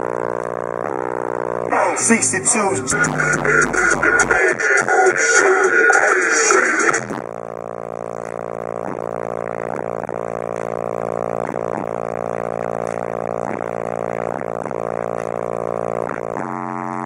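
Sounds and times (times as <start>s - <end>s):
bass-heavy music through subwoofers: 0.0s - 17.0s.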